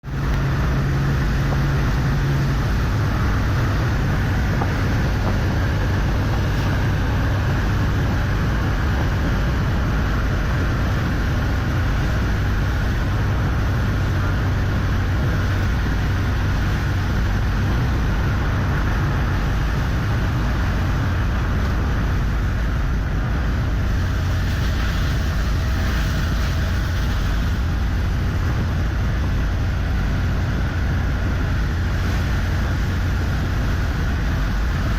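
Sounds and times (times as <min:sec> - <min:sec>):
tyre and wind rush: 0:00.0 - 0:34.9
vehicle engine drone: 0:00.0 - 0:34.9.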